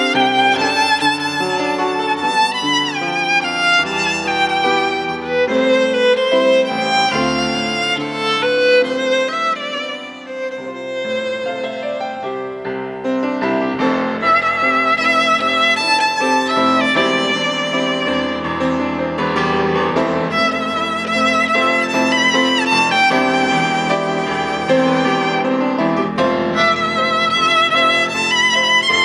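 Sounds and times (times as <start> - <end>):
piano accompaniment: 0.0 - 29.0
violin playing slow melody: 0.0 - 29.0.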